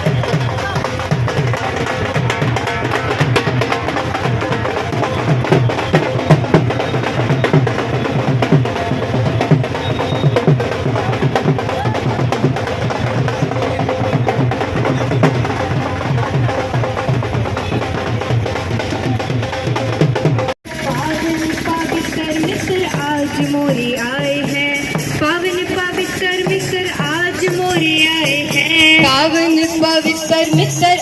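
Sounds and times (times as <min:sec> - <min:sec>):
clacking hand percussion: 0:00.0 - 0:31.0
fast drum beats: 0:00.0 - 0:31.0.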